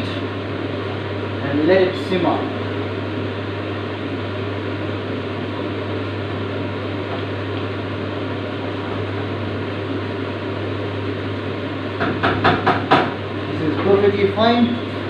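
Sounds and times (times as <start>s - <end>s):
steady whirring with low hum: 0.0s - 15.0s.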